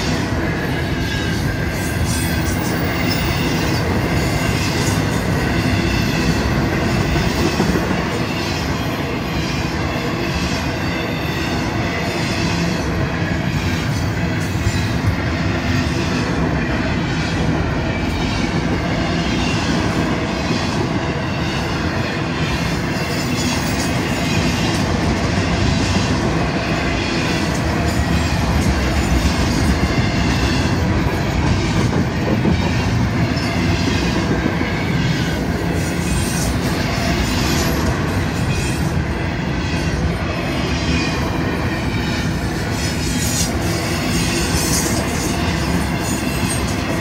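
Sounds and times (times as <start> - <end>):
steel wheels rumbling on rail: 0.0 - 47.0.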